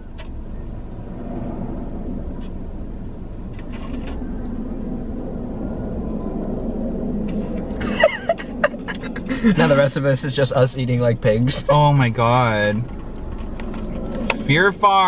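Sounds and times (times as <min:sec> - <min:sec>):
car cabin rumble and hum: 0:00.0 - 0:15.0.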